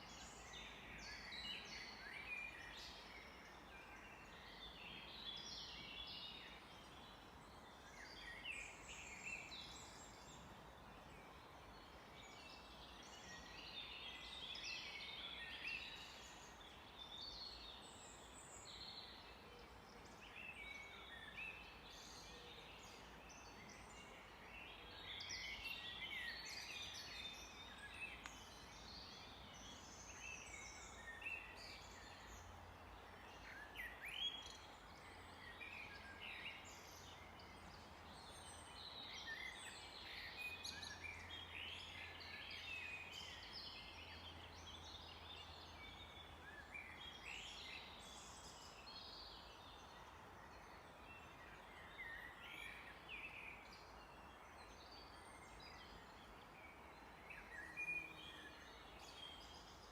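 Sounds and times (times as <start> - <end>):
background hiss: 0.0 - 59.9
songbirds singing: 0.0 - 59.9.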